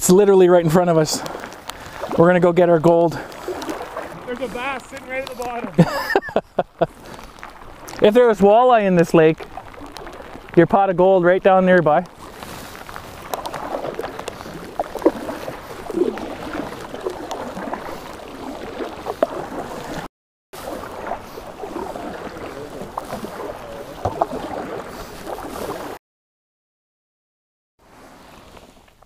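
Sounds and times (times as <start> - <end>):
light rain on water: 0.0 - 26.0, 27.8 - 29.0
paddle strokes splashing in water: 0.0 - 26.0, 27.8 - 29.0.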